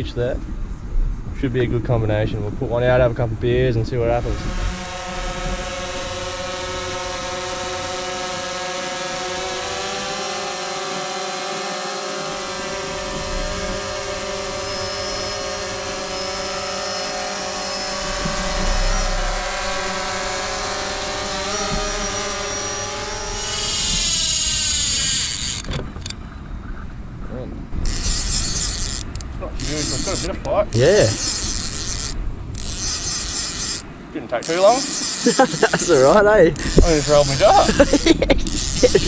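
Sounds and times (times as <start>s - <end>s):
drone propellers buzzing: 3.4s - 26.2s, 27.7s - 39.0s.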